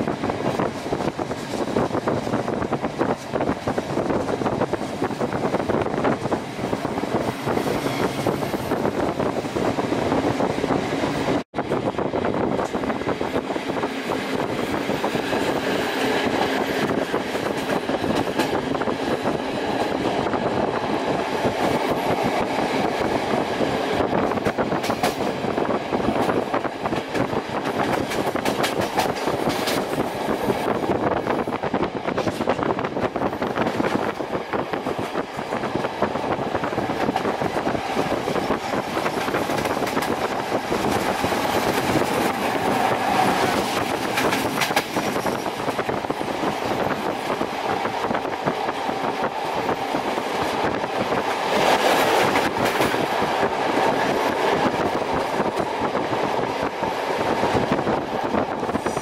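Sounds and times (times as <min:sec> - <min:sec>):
train rolling noise: 0:00.0 - 0:59.0.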